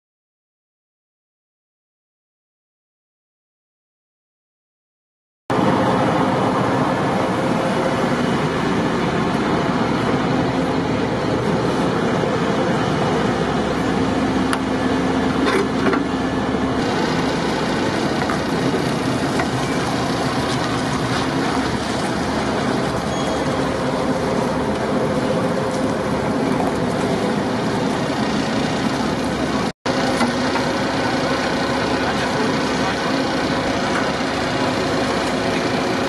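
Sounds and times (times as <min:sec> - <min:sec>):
diesel engines idling: 0:05.5 - 0:36.0.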